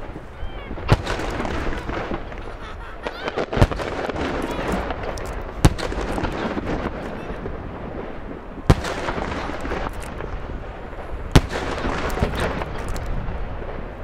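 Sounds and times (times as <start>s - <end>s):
firework shells booming: 0.0s - 14.0s
fireworks crackling: 0.0s - 14.0s.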